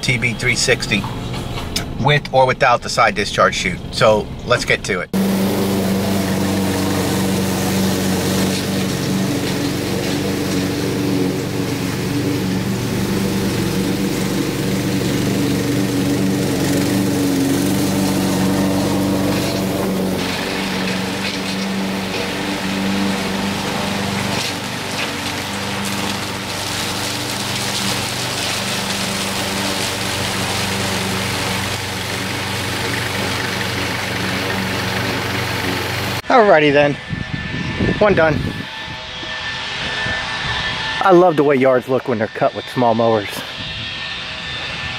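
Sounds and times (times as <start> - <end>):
lawn mower engine drone: 0.0 - 44.9.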